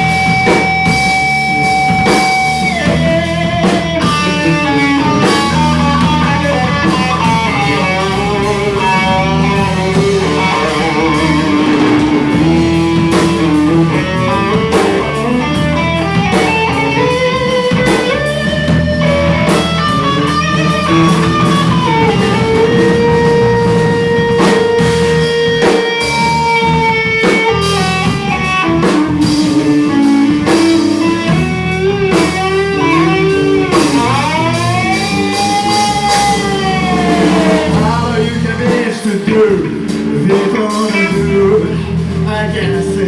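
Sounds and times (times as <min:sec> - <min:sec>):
bass and drums: 0:00.0 - 0:43.0
electric guitar lead with bends: 0:00.0 - 0:43.0.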